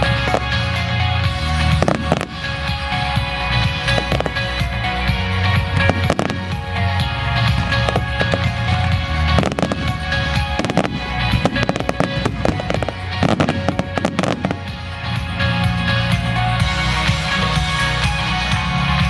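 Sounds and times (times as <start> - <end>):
fireworks bursting and crackling: 0.0 - 18.6
music: 0.0 - 19.0.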